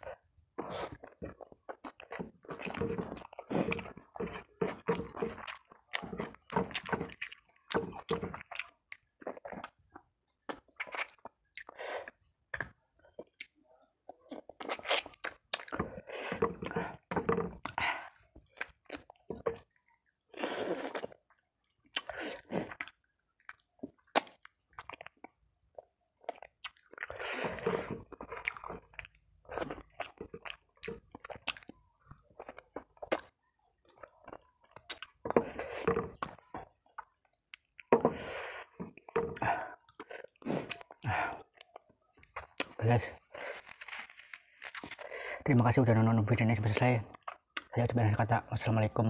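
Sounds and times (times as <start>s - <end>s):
person chewing with wet smacks: 0.0s - 45.1s, 46.3s - 48.2s.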